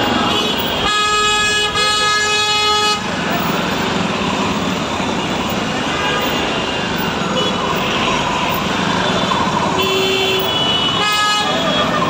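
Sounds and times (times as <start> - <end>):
heavy street traffic: 0.0 - 12.0.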